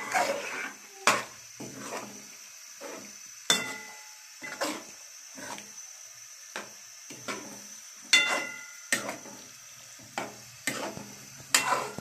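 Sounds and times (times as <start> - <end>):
spatula scraping frying pan: 0.0 - 5.8, 6.5 - 12.0
faint sizzle: 0.0 - 12.0.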